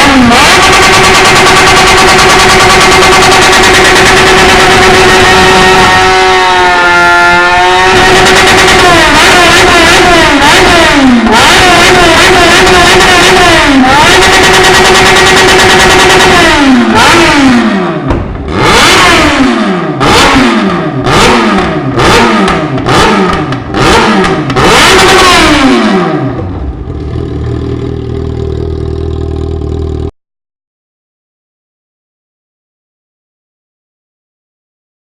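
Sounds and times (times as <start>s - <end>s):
motorcycle engine revving: 0.0s - 30.1s.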